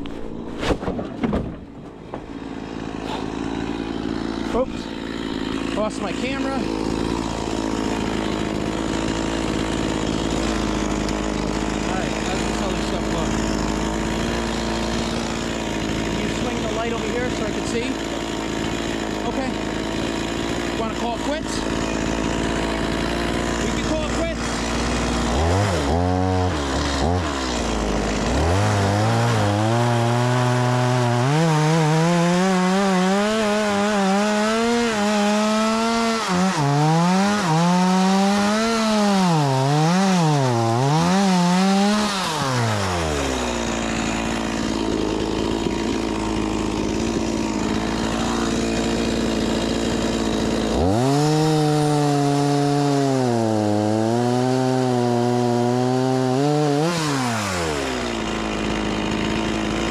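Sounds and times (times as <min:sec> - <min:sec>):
chainsaw cutting firewood: 0:00.0 - 0:59.9.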